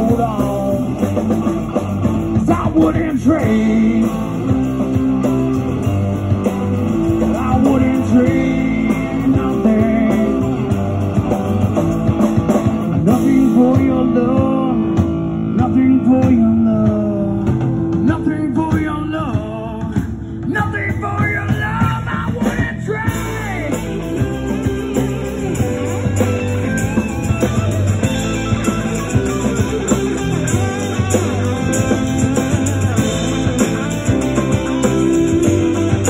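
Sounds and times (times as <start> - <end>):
lead guitar line bending: 0.0 - 36.0
live rock band playing: 0.0 - 36.0.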